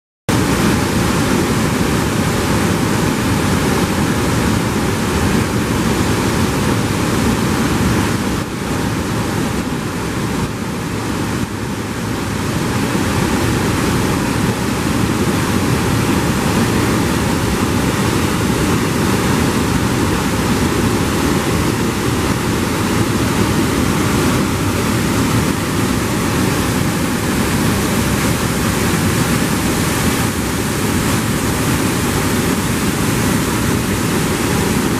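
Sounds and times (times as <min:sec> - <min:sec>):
waterfall rushing over rocks: 0:00.3 - 0:34.9.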